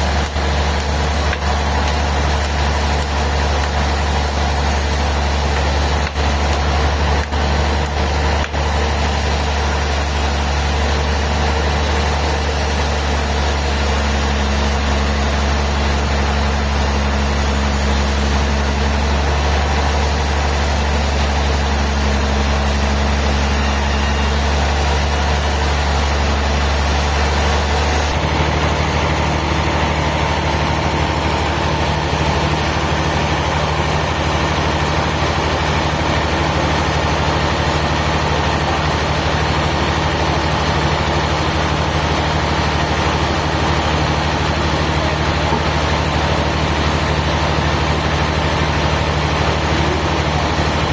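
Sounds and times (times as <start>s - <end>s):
sawmill machinery engine drone: 0.0s - 50.9s.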